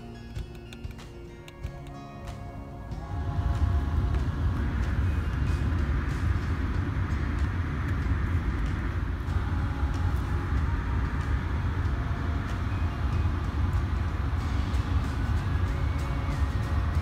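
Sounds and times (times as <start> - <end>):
car fan blowing air: 0.0 - 17.0
low rumble: 2.5 - 17.0.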